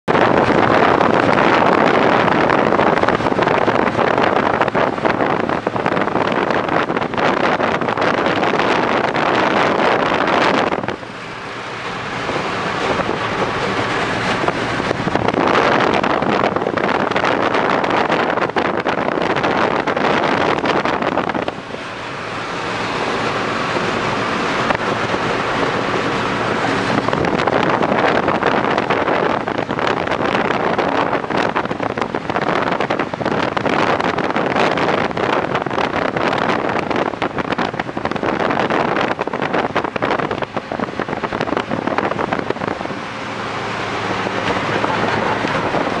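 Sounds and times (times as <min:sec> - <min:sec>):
engine and tyres humming: 0:00.0 - 0:46.0
wind buffeting microphone: 0:00.1 - 0:46.0.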